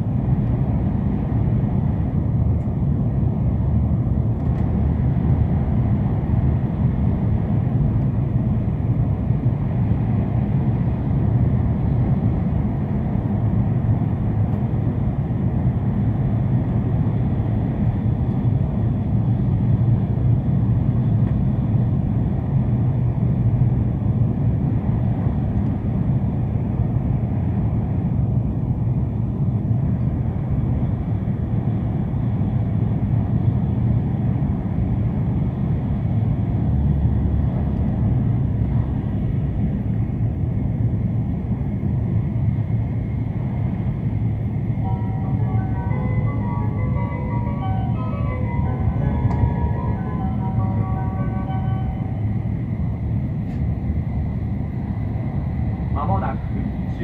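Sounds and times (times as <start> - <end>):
train rumbling at speed: 0.0 - 57.0.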